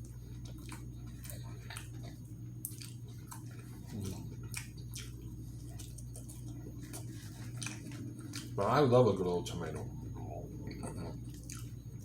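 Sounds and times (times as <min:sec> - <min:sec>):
chewing with wet smacks: 0:00.0 - 0:12.0
steady low hum: 0:00.0 - 0:12.0.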